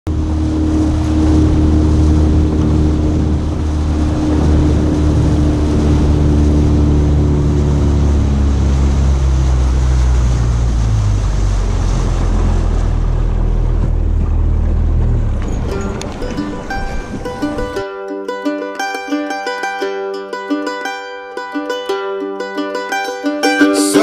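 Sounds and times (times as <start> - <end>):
boat motor running: 0.1 - 20.8
water and wind noise: 0.1 - 24.0.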